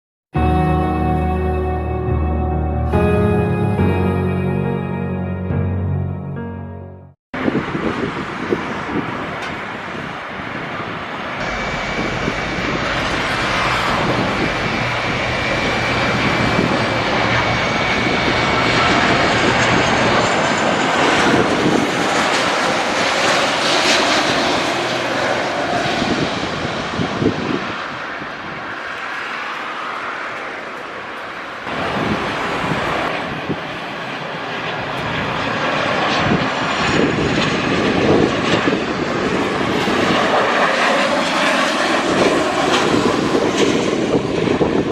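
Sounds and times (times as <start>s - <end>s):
jet airliner engine noise: 7.4s - 44.9s
thin high engine whine: 7.4s - 44.9s.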